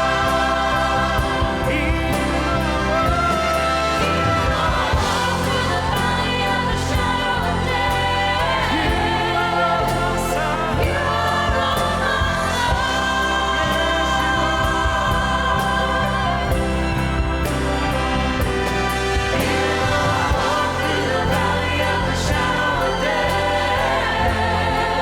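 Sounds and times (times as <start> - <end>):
choir singing: 0.0 - 25.0
orchestra playing: 0.0 - 25.0.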